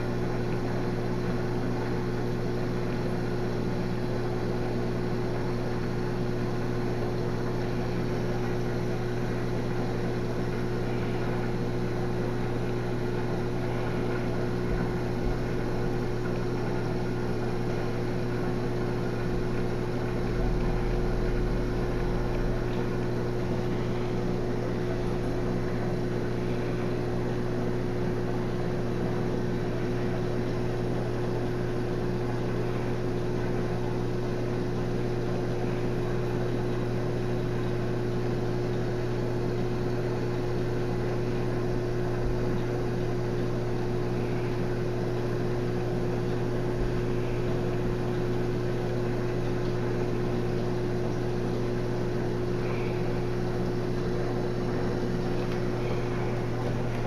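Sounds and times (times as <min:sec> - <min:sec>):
aquarium pump humming: 0:00.0 - 0:57.0.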